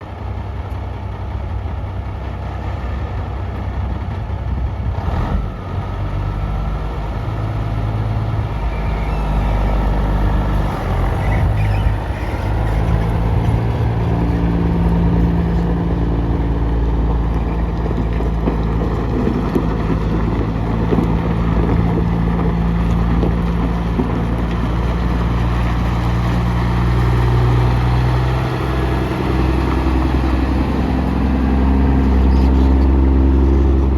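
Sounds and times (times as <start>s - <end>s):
truck engine running: 0.0s - 33.9s.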